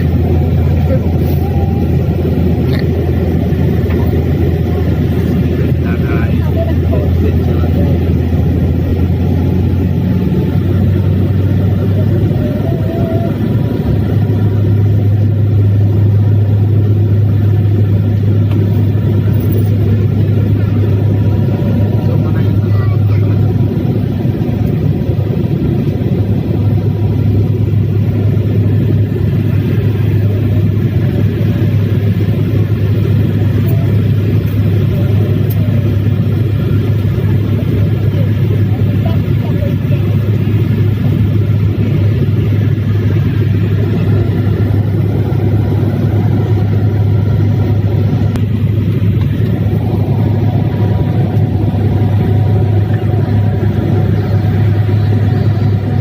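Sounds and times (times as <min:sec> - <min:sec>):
vehicle rumbling: 0:00.0 - 0:56.0.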